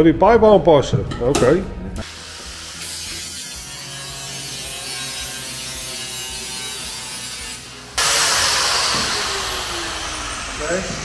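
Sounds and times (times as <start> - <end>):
angle grinder grinding metal: 2.0 - 11.0.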